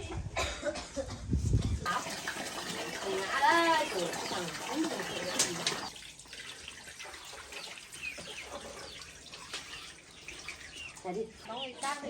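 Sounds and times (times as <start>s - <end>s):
birds chirping: 1.6s - 12.0s.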